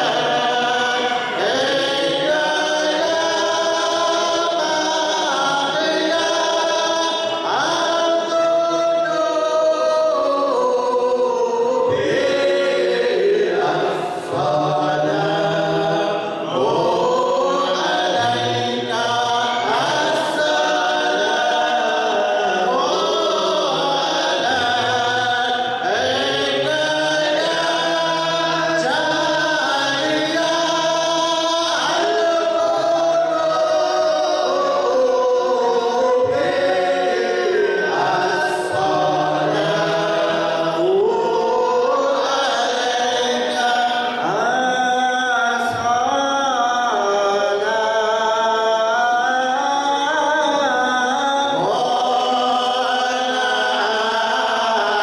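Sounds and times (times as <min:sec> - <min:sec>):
men chanting in unison: 0:00.0 - 0:55.0.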